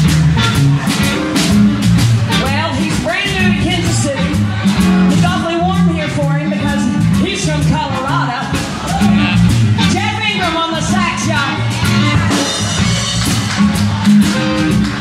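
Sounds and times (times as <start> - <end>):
blues band playing: 0.0 - 15.0.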